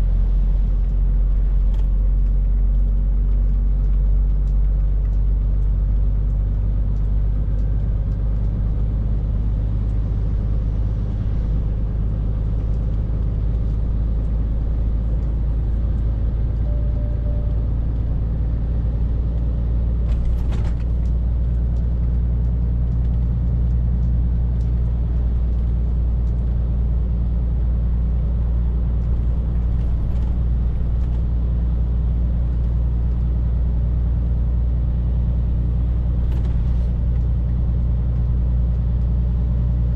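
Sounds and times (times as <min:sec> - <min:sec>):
diesel lorry engine cruising: 0:00.0 - 0:39.9
road rumble: 0:00.0 - 0:39.9.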